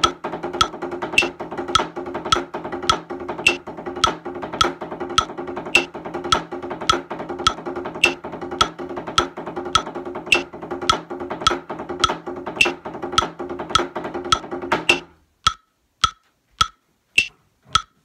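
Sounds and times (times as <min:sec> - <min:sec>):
metronome clicking: 0:00.0 - 0:09.3, 0:10.3 - 0:18.0
drumsticks on practice pads: 0:00.0 - 0:18.0.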